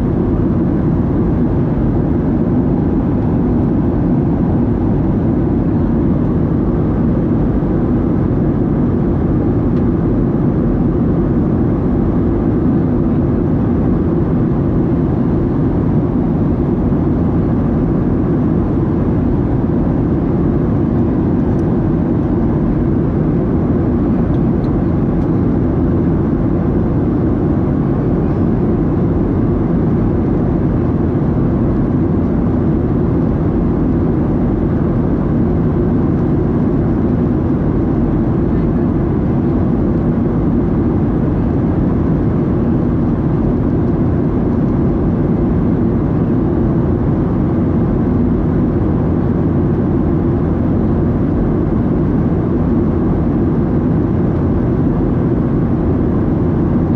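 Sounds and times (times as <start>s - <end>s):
airflow over fuselage: 0.0s - 56.9s
airplane cabin engine rumble: 0.0s - 56.9s.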